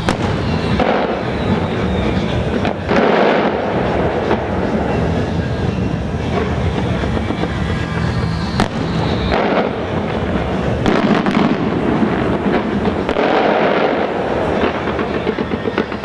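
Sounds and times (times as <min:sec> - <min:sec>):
firework bang: 0:00.0 - 0:16.0
firework crackling and popping: 0:00.0 - 0:16.0
firework shells bursting: 0:00.0 - 0:16.0.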